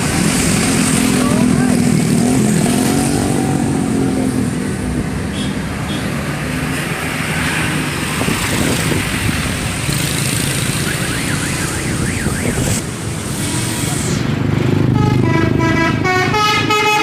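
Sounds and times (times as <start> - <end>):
vehicle engines droning: 0.0 - 17.0.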